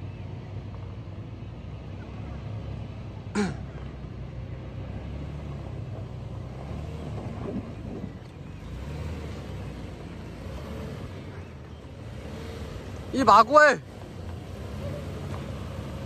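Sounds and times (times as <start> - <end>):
suv engine under load: 0.0 - 16.0.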